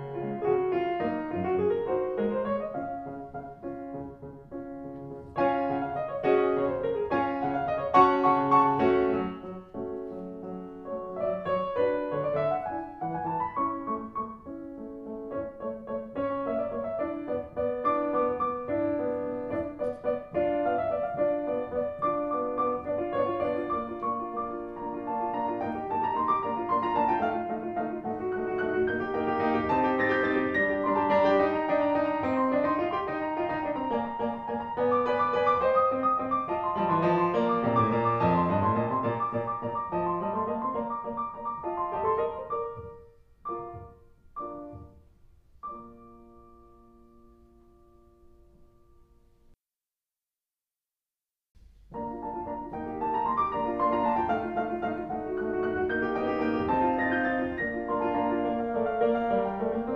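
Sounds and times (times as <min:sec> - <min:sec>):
piano music: 0:00.0 - 0:49.6, 0:51.7 - 0:59.9.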